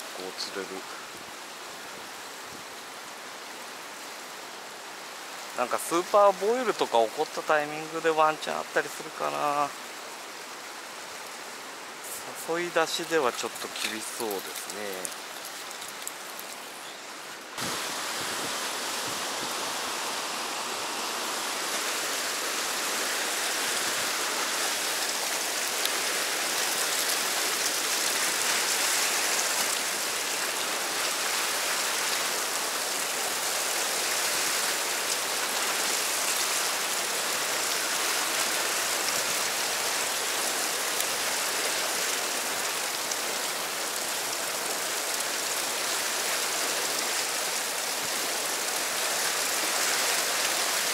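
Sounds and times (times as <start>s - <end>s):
rapids rushing water: 0.0s - 50.9s.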